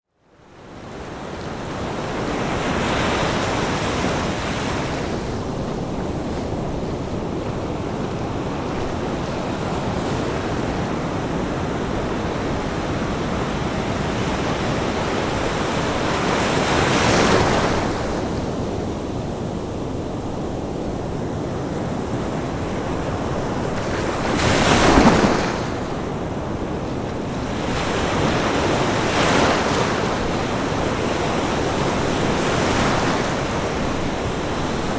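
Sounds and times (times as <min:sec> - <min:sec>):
ocean waves crashing on beach: 0:00.5 - 0:34.9.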